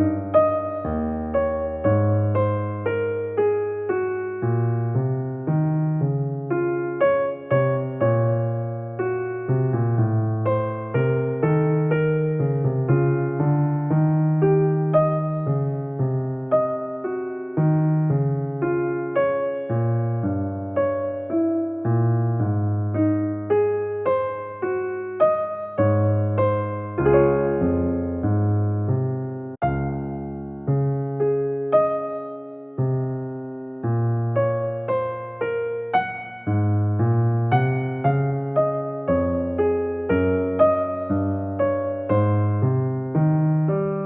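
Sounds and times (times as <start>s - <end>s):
gentle electric piano music: 0.0s - 44.0s.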